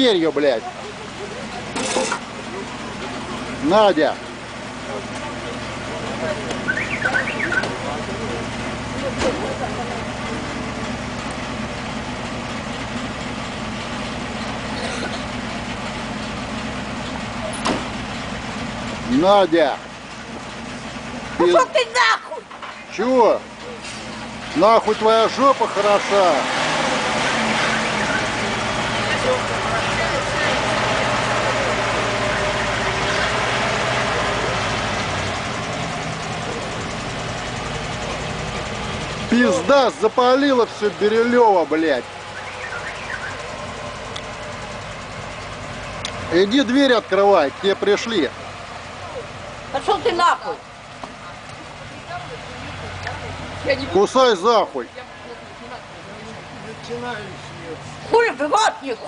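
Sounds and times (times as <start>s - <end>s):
engine idling: 0.0s - 59.0s
outdoor background noise: 0.0s - 59.0s.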